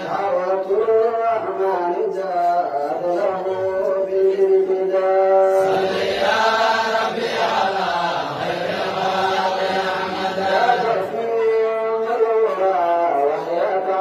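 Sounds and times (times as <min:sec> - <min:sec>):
person singing devotional chant: 0:00.0 - 0:14.0.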